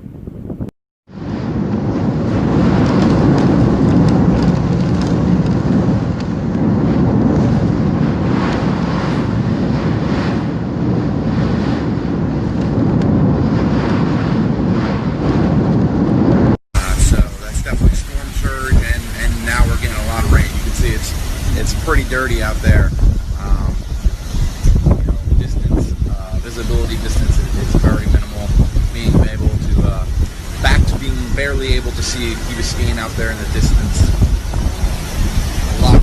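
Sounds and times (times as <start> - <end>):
hurricane wind on microphone: 0.0 - 36.0.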